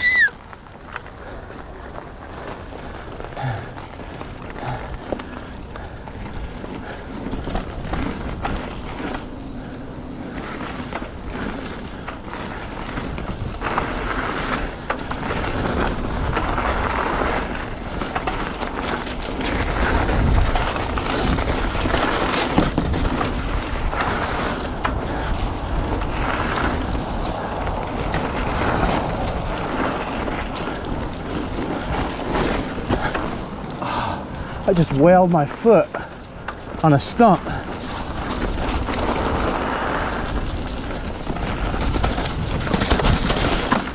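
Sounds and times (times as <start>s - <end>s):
bike tyres rolling over dirt: 0.0s - 43.9s
wind rumbling on microphone: 0.0s - 43.9s
knocks and rattles over bumps: 0.8s - 43.9s.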